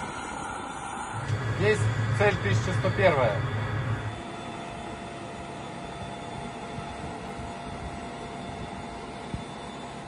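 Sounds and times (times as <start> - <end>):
machinery hum with thin whine: 0.0 - 10.0.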